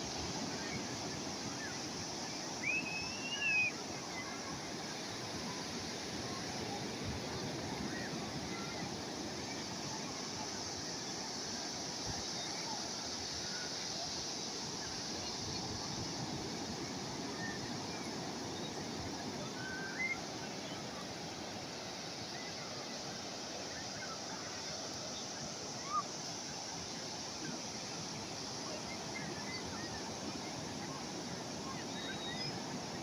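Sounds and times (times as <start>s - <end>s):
sea waves breaking on shore: 0.0s - 33.0s.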